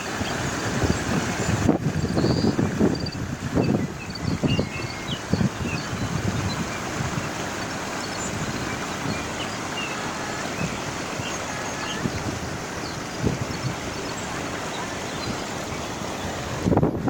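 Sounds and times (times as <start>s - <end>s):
wind thumping on microphone: 0.0s - 9.5s, 10.5s - 17.0s
waterfall roaring: 0.0s - 17.0s.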